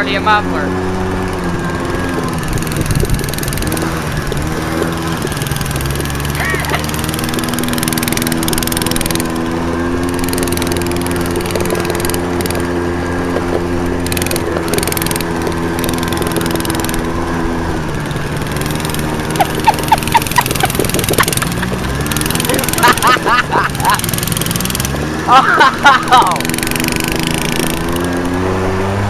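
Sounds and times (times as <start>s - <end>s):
small engine running loud: 0.0s - 29.0s.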